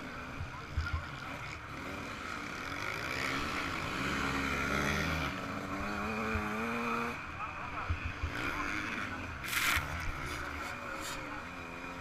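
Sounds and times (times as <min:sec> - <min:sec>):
two-stroke motocross engine revving: 0:00.0 - 0:12.0.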